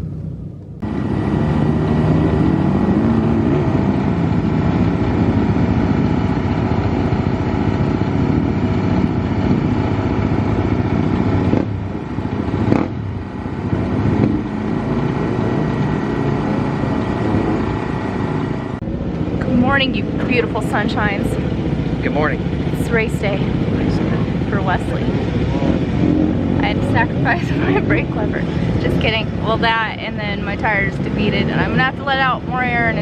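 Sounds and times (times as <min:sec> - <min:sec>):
dirt bike engine running hard: 0:00.0 - 0:33.0.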